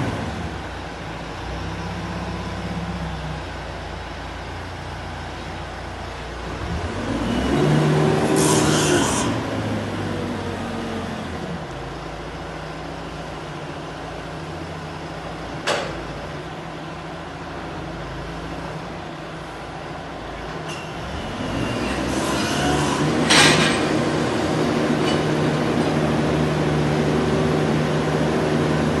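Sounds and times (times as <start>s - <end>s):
diesel engine revving: 0.0s - 14.3s, 18.0s - 29.0s.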